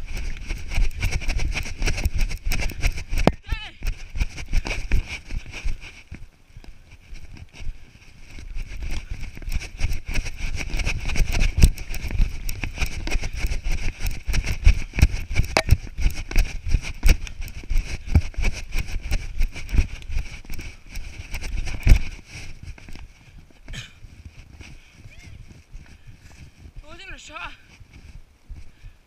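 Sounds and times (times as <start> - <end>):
wind rumble on microphone: 0.0 - 26.9, 27.5 - 29.0.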